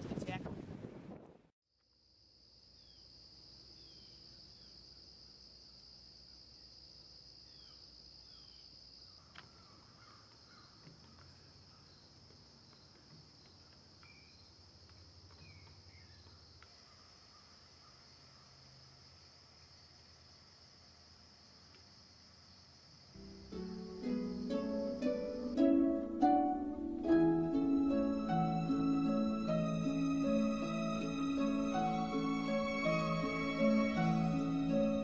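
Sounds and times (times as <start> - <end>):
high-pitched insect chorus: 2.0 - 10.8, 11.4 - 26.2, 27.5 - 35.0.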